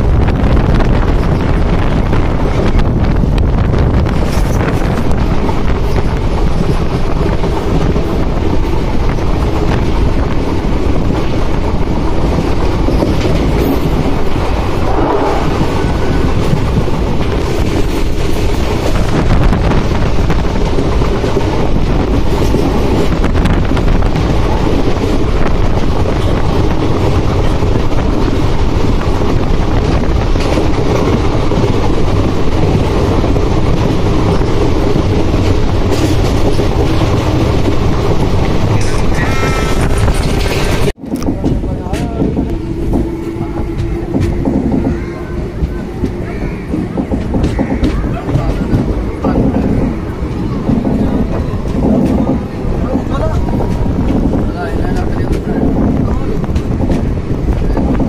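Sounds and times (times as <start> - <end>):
train clicks: 0.0 - 58.0
train wheels rumbling on rails: 0.0 - 58.0.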